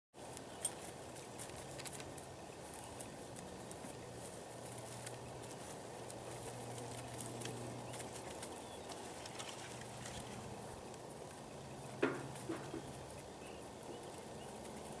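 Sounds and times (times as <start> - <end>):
faint ticks and chirps: 0.2 - 15.0
steady low hum: 0.2 - 15.0.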